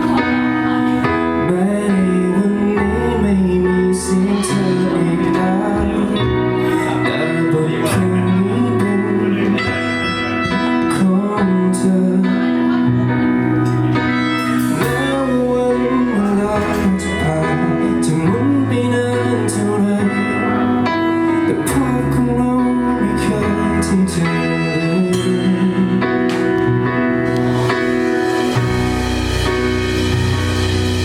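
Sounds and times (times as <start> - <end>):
live band guitar music: 0.0 - 31.0
sustained bass notes: 0.0 - 31.0.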